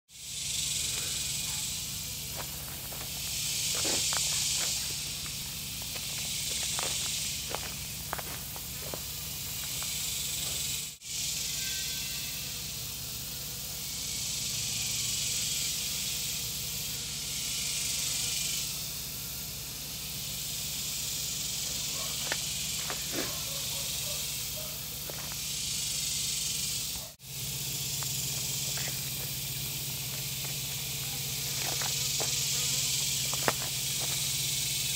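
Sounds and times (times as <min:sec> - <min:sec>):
insect chorus: 0:00.1 - 0:34.9.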